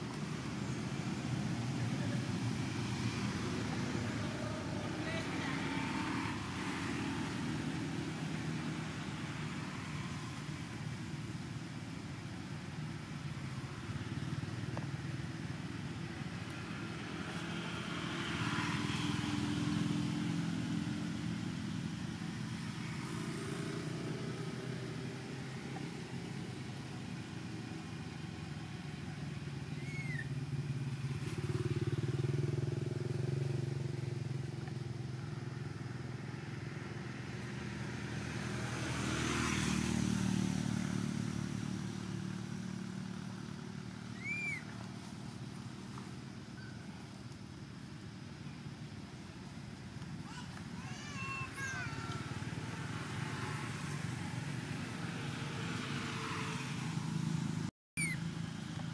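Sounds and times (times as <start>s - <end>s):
vehicles passing: 0.0s - 58.9s.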